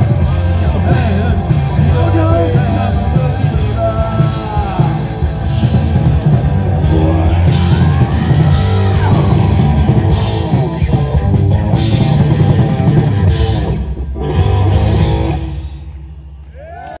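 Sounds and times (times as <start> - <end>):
distorted electric guitars: 0.0 - 16.4
drum kit: 0.0 - 16.8.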